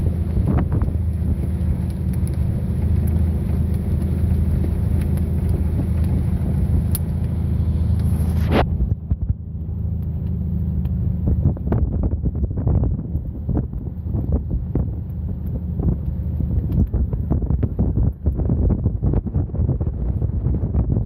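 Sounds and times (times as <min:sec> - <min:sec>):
boat diesel engine rumbling: 0:00.0 - 0:21.0
wind noise on microphone: 0:00.0 - 0:21.0.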